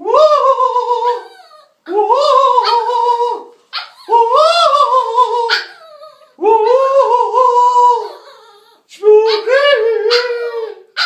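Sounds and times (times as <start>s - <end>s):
puppy howling: 0.6s - 3.2s, 3.8s - 11.0s.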